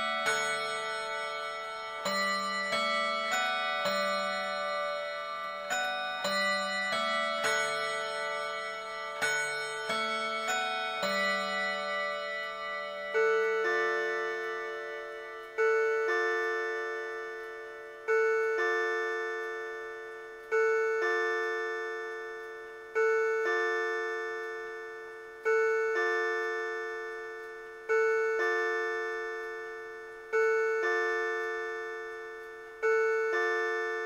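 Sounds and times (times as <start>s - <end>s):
two-note clock chime: 0.0s - 34.0s.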